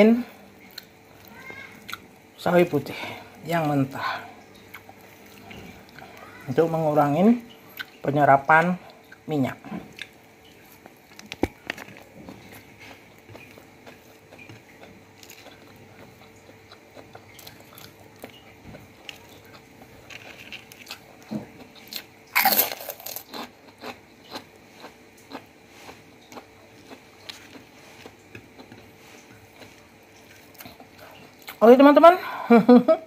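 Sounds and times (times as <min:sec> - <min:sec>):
person chewing and crunching food: 0:00.3 - 0:31.7.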